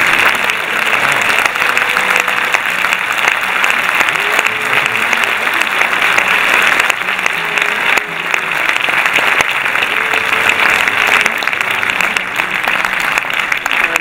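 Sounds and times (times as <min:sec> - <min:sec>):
people applauding: 0:00.0 - 0:14.0.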